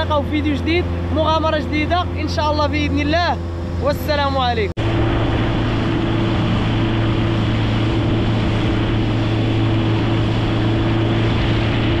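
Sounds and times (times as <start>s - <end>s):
boat engine humming: 0.0s - 12.0s
rush of wind and water: 0.0s - 12.0s.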